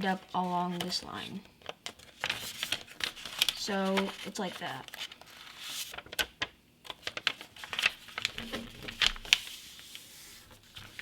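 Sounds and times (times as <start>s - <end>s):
paper crinkling and folding: 0.2s - 11.0s.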